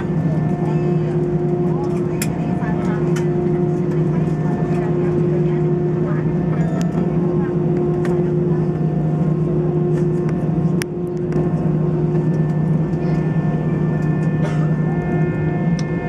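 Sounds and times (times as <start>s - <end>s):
jet engines idling hum: 0.0s - 16.0s.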